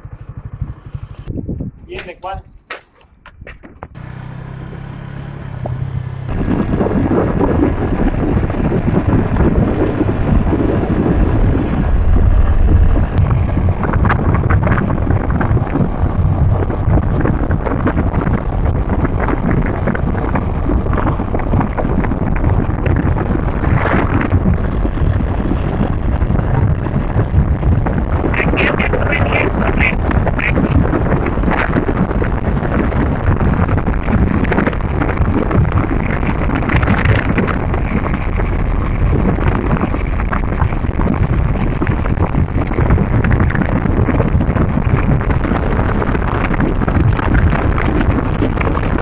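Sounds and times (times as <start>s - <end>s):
car road noise rumble: 0.0s - 49.0s
wind buffeting microphone: 0.0s - 49.0s.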